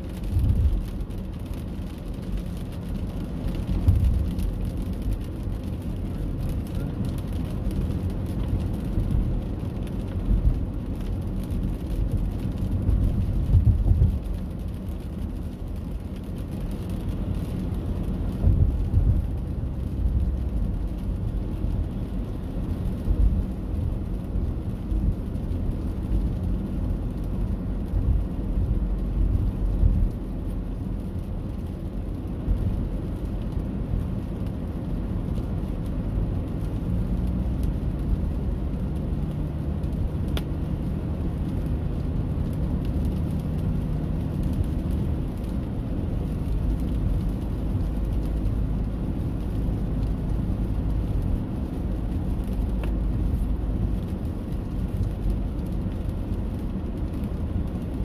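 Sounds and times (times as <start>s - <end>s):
rain rumble: 0.0s - 58.0s.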